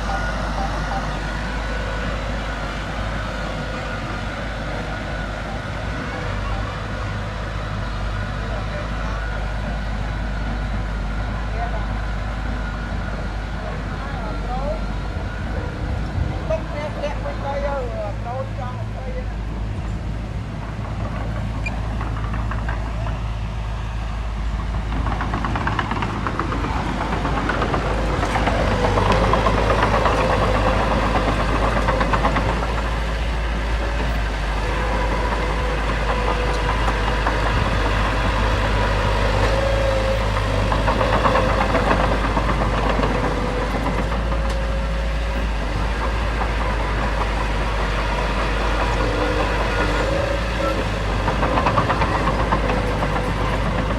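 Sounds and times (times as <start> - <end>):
heavy machinery diesel engine: 0.0 - 53.9.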